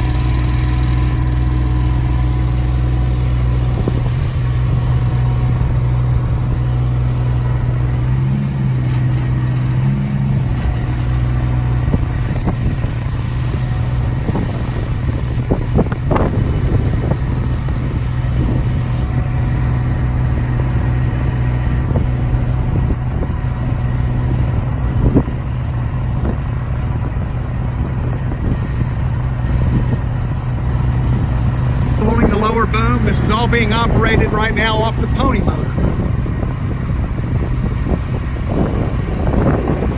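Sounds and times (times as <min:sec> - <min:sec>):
small motor running steadily: 0:00.0 - 0:32.7.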